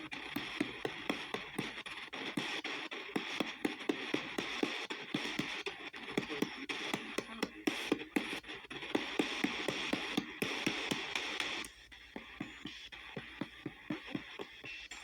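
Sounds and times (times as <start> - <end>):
chopped static hiss: 0.0 - 12.6
radio broadcast snatches: 0.0 - 15.0.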